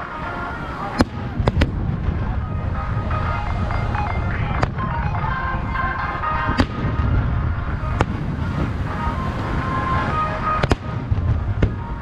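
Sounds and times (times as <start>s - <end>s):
low rumble: 1.0s - 12.0s.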